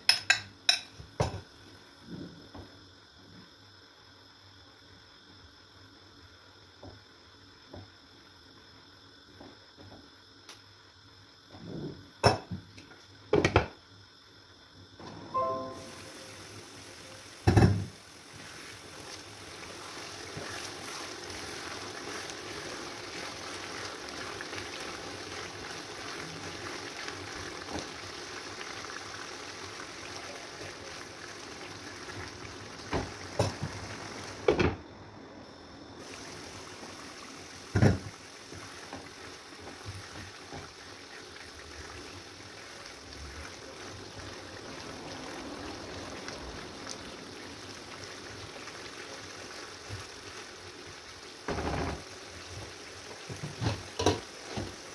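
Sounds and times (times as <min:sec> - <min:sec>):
soup cooking in a pot: 0:00.1 - 0:54.9.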